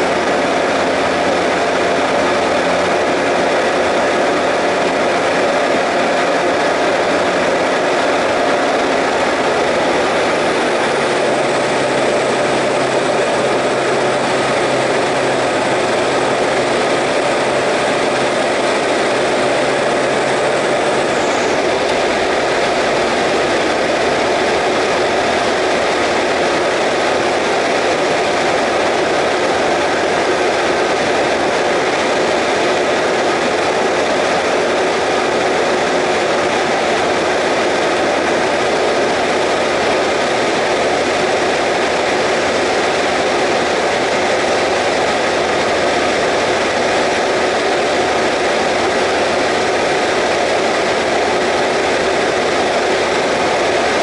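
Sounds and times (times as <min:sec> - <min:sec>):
airflow noise: 0:00.0 - 0:54.0
light aircraft engine droning: 0:00.0 - 0:54.0.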